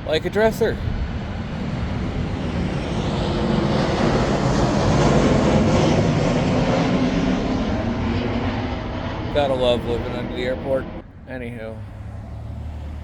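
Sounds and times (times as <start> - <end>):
airplane passing overhead: 0.0 - 13.0.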